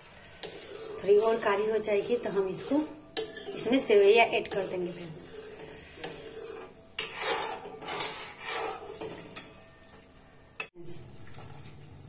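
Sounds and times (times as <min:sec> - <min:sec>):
ladle scraping pan: 0:00.0 - 0:09.8.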